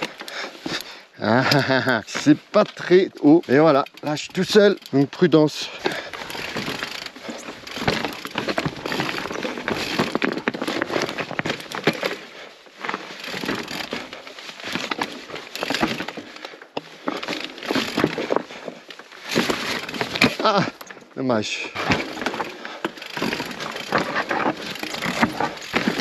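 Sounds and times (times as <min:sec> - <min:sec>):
bike clicks and rattles: 0:00.0 - 0:26.0
bike tyres crunching on stones: 0:00.0 - 0:26.0.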